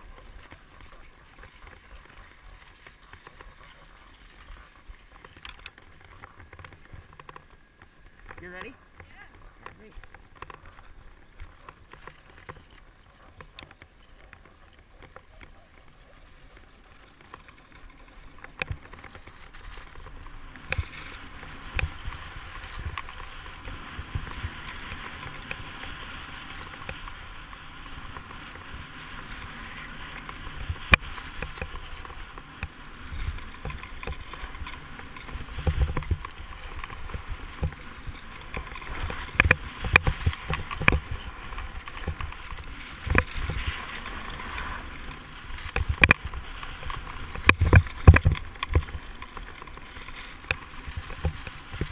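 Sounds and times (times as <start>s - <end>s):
clicks and thumps over bumps: 0.0s - 51.9s
ski scraping on packed snow: 0.0s - 51.9s.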